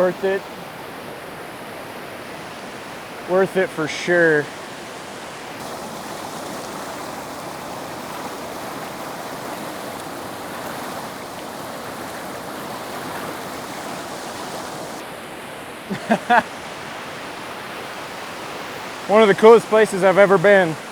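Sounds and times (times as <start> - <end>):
waterfall and river rushing: 0.0 - 20.9.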